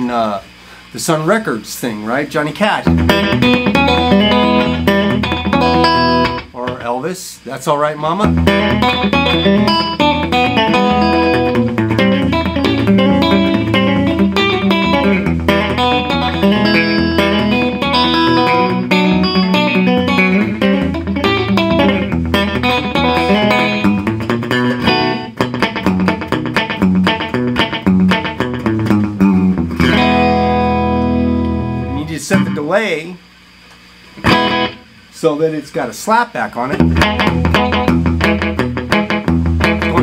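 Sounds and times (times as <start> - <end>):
fingerpicked electric guitar with echo: 2.8 - 6.8, 8.2 - 32.7, 34.2 - 34.9, 36.7 - 40.0.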